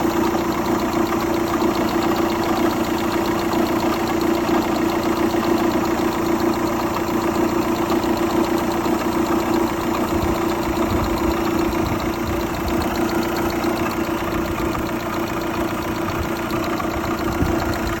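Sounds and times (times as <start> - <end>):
car engine idling: 0.0 - 18.0
fast engine ticking: 0.0 - 18.0.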